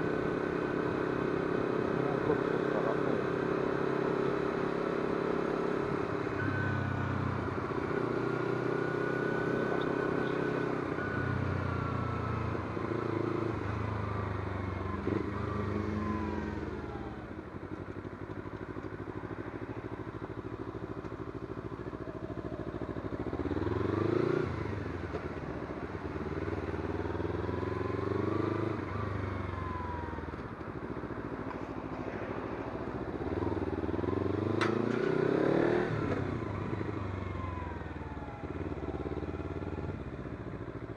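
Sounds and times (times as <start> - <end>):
motorcycle engine on the move: 0.0 - 40.9.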